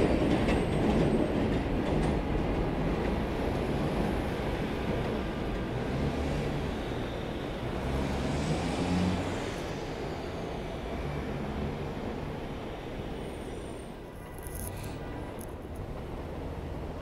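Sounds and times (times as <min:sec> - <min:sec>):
subway train rumbling on steel: 0:00.0 - 0:14.4, 0:15.0 - 0:17.0.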